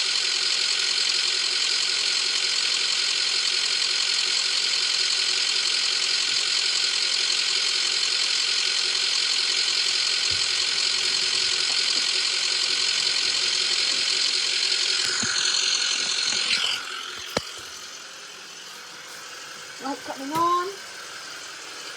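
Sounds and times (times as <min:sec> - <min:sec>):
ambulance engine idling: 0:00.0 - 0:21.9.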